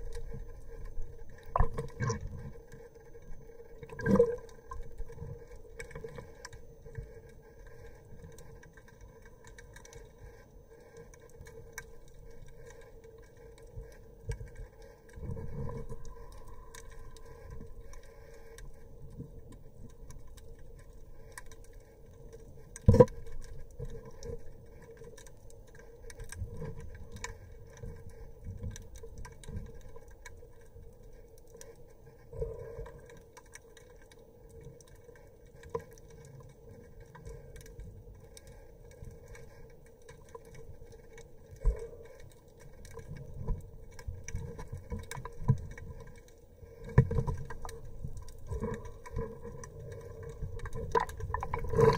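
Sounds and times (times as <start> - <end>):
faint clicks: 0.0 - 51.9
low rumbling water movement: 0.0 - 51.9
underwater hum: 0.0 - 51.9.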